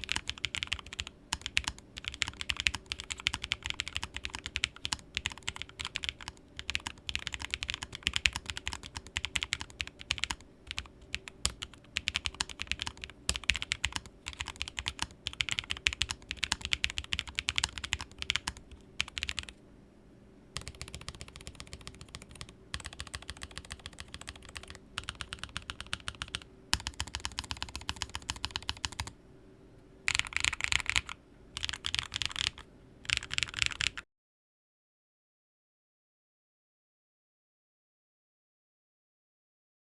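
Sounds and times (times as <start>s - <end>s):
mechanical keyboard typing: 0.0s - 19.5s, 20.6s - 29.1s, 30.1s - 34.0s.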